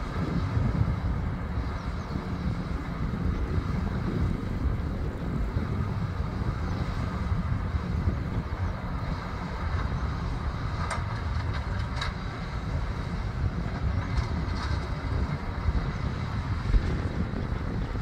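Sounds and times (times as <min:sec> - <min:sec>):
tractor running under load: 0:00.0 - 0:18.0.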